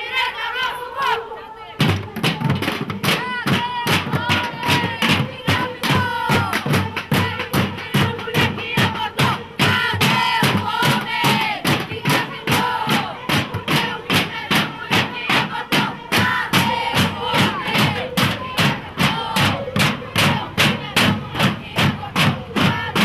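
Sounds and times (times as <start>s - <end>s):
crowd of women chanting and singing: 0.0s - 23.0s
steady percussion beat: 1.8s - 23.0s.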